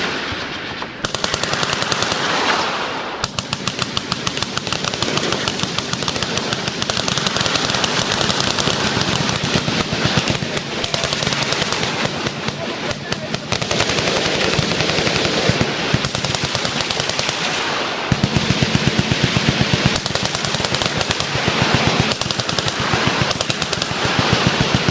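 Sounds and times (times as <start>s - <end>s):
machine guns firing: 0.0s - 24.9s.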